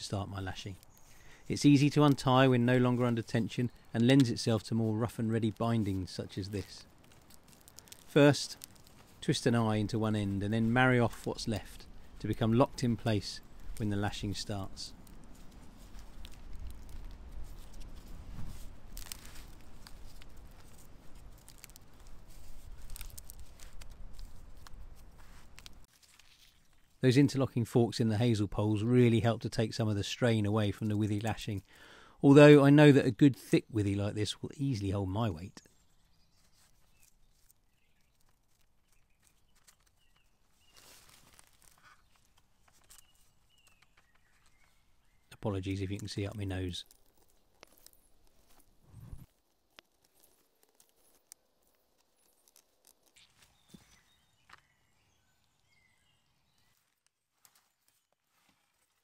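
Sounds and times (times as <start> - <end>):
rustling and clicking of withy: 0.0 - 27.0, 35.4 - 55.6, 56.4 - 59.0
wood fibres crackling and splitting: 0.0 - 59.0.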